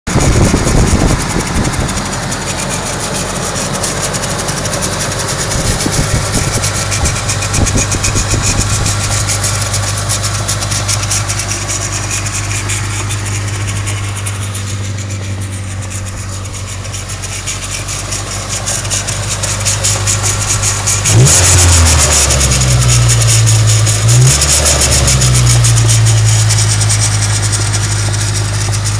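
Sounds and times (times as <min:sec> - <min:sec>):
car engine idling: 0:00.1 - 0:28.9.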